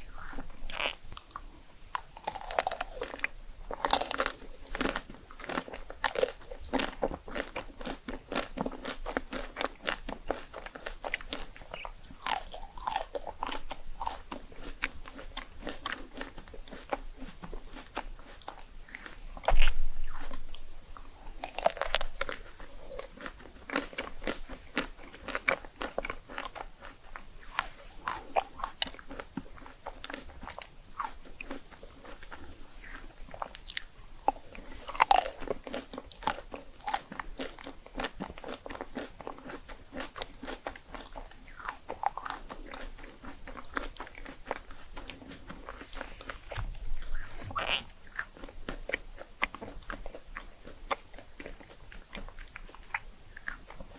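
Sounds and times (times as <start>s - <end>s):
crunching and chewing rice cakes: 0.0s - 53.9s.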